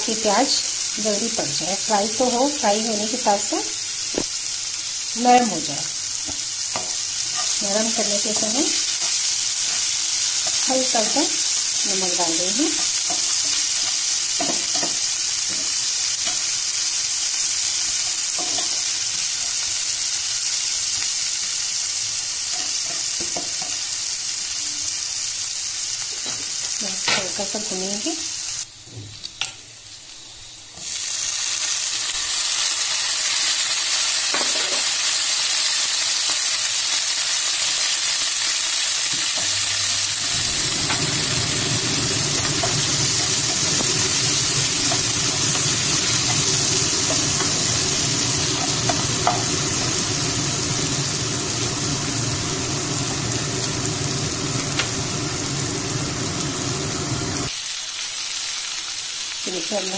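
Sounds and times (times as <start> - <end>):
onions and tomatoes sizzling in oil: 0.0 - 59.9.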